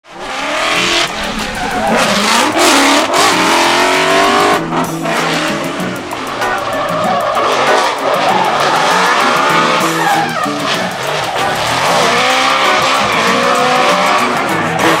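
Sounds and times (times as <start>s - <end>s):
tyre noise: 0.1s - 14.2s
car engine revving hard: 0.1s - 15.0s.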